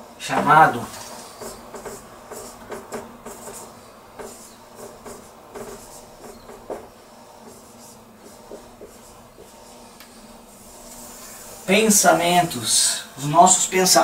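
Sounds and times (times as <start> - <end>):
marker writing on whiteboard: 0.3 - 12.3.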